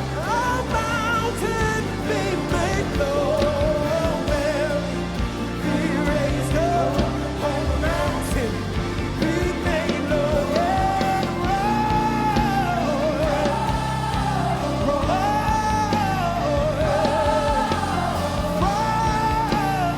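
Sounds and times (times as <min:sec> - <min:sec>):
person singing: 0:00.0 - 0:19.9
rock band playing: 0:00.0 - 0:19.9.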